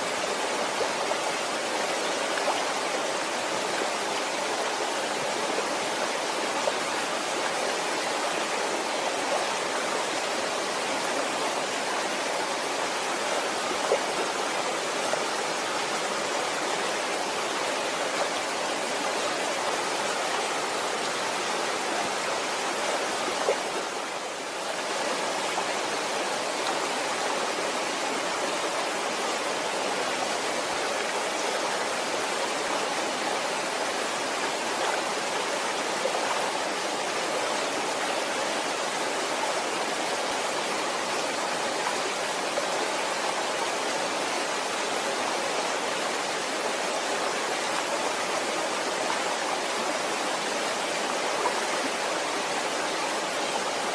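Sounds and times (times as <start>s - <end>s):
waterfall pouring and splashing: 0.0s - 53.9s.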